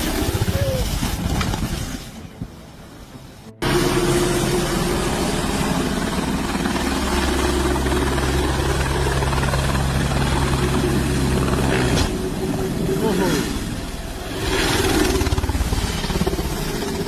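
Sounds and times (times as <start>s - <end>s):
helicopter running: 0.0s - 2.2s, 3.4s - 17.0s.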